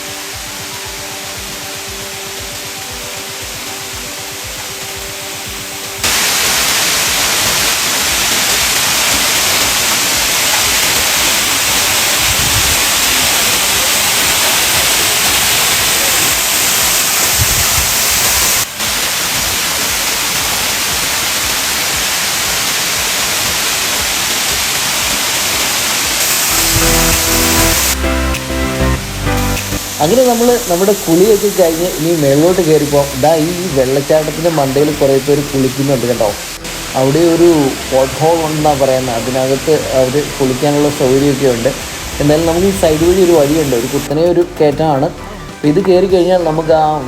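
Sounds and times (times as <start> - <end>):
background music: 0.0 - 47.0
waterfall rushing: 0.0 - 47.0.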